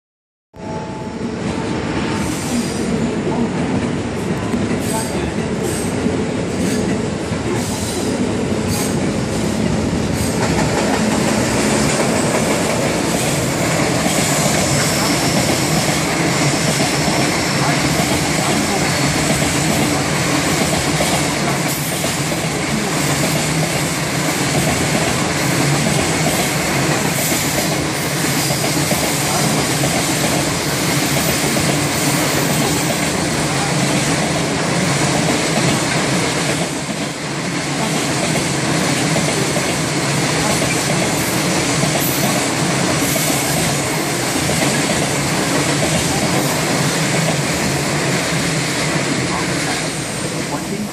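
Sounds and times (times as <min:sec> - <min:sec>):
freight train wheels rumbling: 0:00.9 - 0:50.9.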